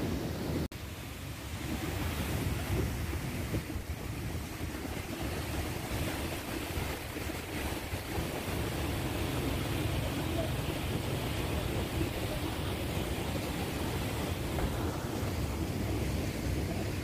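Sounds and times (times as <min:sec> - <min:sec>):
river water rushing: 0:00.0 - 0:17.0
wind buffeting microphone: 0:00.0 - 0:17.0.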